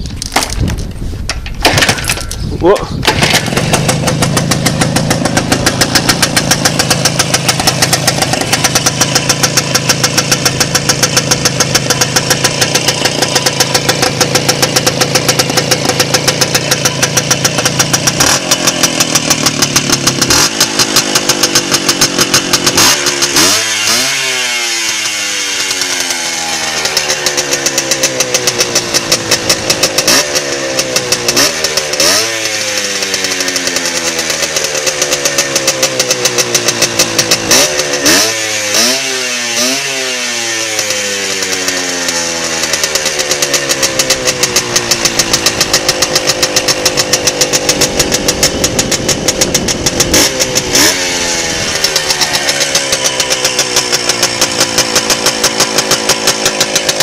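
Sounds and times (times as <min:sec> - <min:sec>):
two-stroke engine idling and revving: 0:01.6 - 0:57.0.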